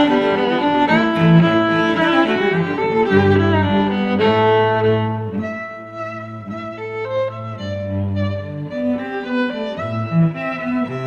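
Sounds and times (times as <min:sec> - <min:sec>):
bowed string notes: 0:00.0 - 0:11.0.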